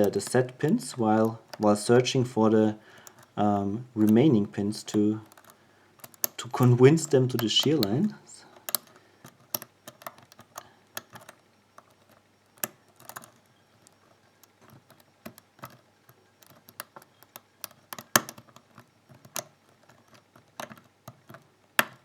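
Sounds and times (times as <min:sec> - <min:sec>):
lock pick clicking pins: 0:00.0 - 0:22.0.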